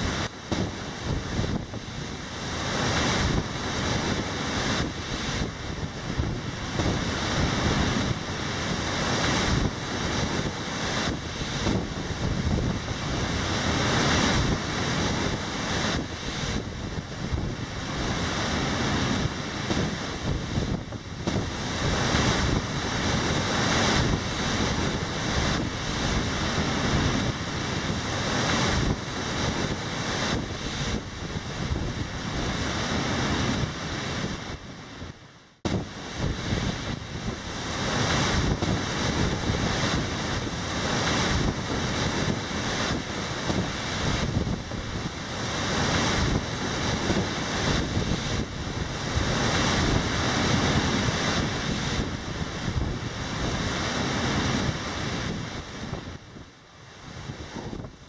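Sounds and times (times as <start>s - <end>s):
storm waves crashing: 0.0s - 58.0s
wind buffeting microphone: 0.0s - 58.0s.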